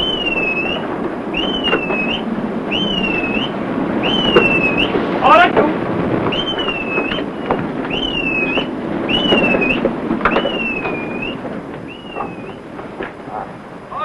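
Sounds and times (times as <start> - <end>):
rope squealing through blocks: 0.0 - 5.5, 6.2 - 12.7
wind and sea rushing: 0.0 - 14.0.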